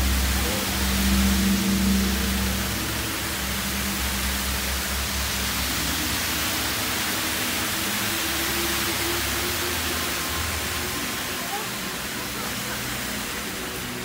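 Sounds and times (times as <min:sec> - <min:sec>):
faint music tones: 0:00.0 - 0:14.0
rain hissing: 0:00.0 - 0:14.0.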